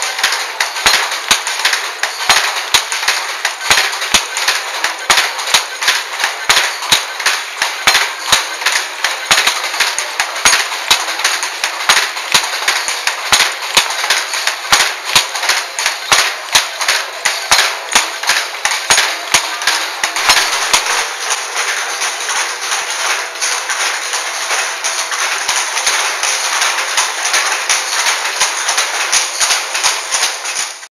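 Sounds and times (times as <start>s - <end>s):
clatter of looms: 0.0s - 30.9s
wooden loom clacking: 0.0s - 30.9s.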